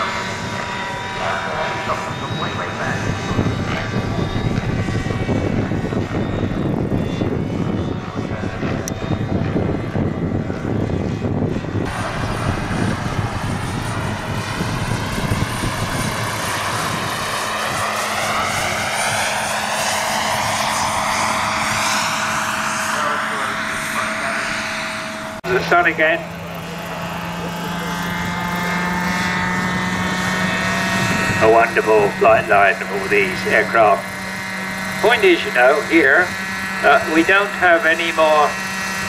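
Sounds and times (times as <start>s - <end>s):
turbine whine and hiss: 0.0s - 9.2s, 11.8s - 39.0s
model helicopter low rumble: 0.0s - 39.0s.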